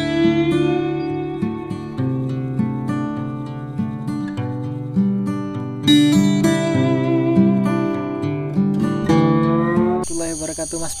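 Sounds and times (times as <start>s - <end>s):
plucked guitar melody: 0.0s - 10.1s.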